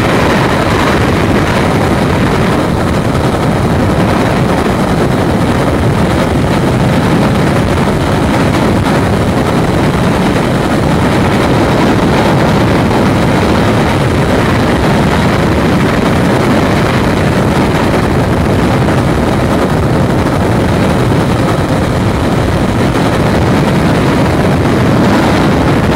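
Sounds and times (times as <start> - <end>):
freefall wind on microphone: 0.0 - 25.9.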